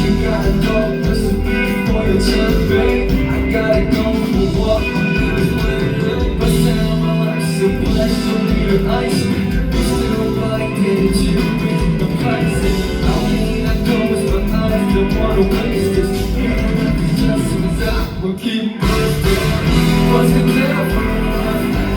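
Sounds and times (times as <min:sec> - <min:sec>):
live pop music: 0:00.0 - 0:21.9
person singing: 0:00.0 - 0:21.9.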